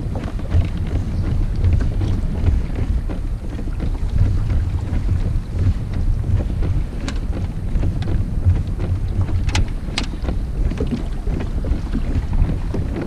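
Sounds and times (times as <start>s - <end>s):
choppy water: 0.0s - 13.0s
wind buffeting microphone: 0.0s - 13.0s.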